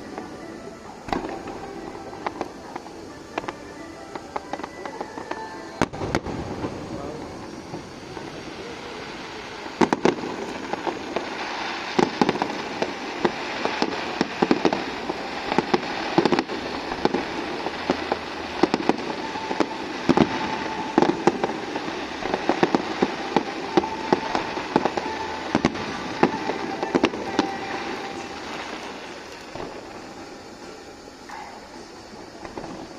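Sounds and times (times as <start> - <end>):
fireworks crackling: 0.0 - 32.9
fireworks shells bursting: 0.0 - 32.9.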